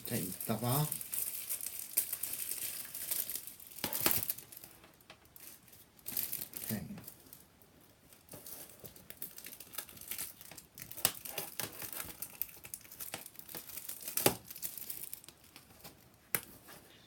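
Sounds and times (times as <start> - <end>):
plastic shrink wrap crinkling: 0.0 - 16.8.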